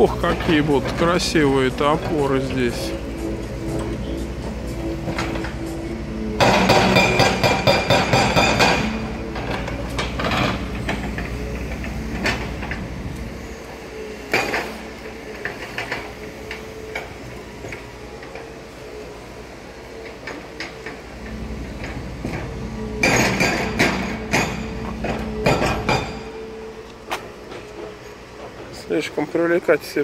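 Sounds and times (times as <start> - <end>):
metallic clanks and knocks: 0.0 - 13.3, 14.3 - 18.5, 19.9 - 26.5
hydraulic breaker hammering: 0.0 - 18.6, 20.0 - 28.7
steady low hum: 0.0 - 30.0.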